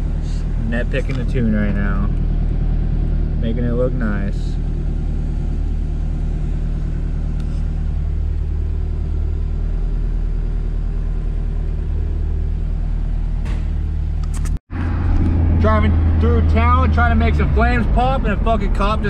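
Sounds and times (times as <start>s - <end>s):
car engine running steadily: 0.0s - 19.0s.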